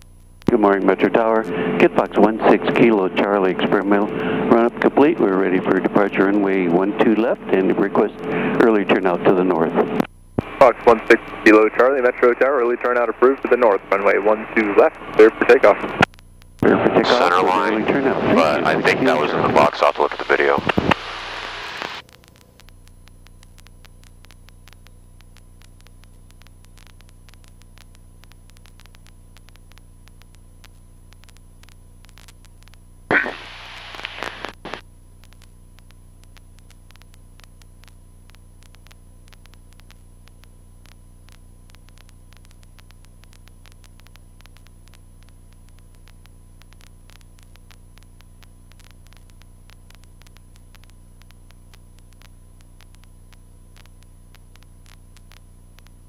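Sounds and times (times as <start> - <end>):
crackling burst of static: 0.0 - 56.0
radio hiss and hum: 0.0 - 56.0.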